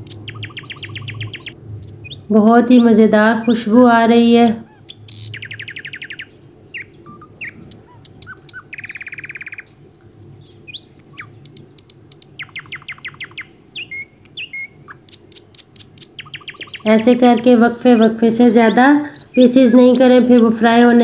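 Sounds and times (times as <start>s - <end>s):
small birds chirping and trilling: 0.0s - 21.0s.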